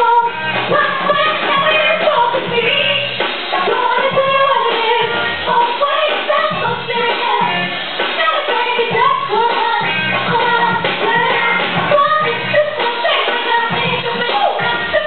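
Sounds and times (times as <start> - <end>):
pop backing track with bass: 0.0 - 15.0.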